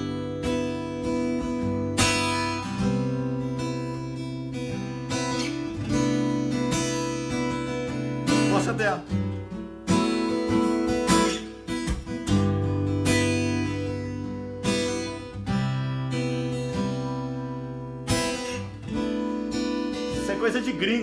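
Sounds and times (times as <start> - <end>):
acoustic guitar strummed slowly: 0.0 - 21.0.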